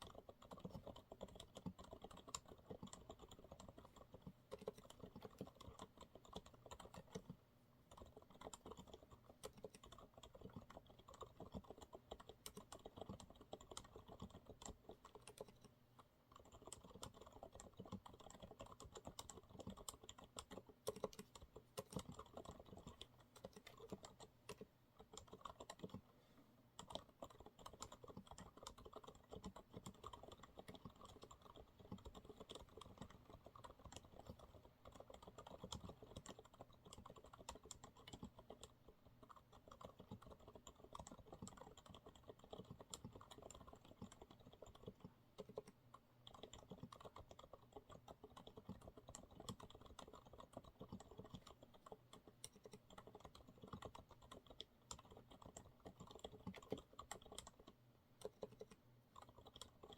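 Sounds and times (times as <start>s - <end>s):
quiet keyboard typing: 0.0s - 59.9s.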